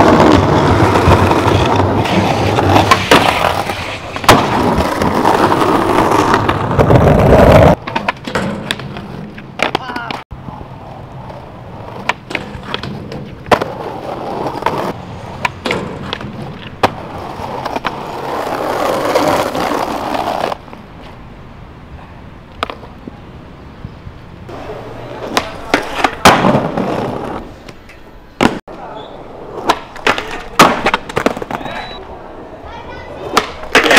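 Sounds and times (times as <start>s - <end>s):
skateboard popping and clacking: 0.0s - 10.2s, 11.2s - 20.6s, 24.5s - 28.8s, 29.5s - 31.9s, 33.0s - 33.9s
skateboard impact: 0.0s - 21.2s, 22.5s - 23.2s, 24.5s - 32.0s, 32.7s - 33.9s
skateboard wheels rolling on pavement: 0.0s - 33.9s.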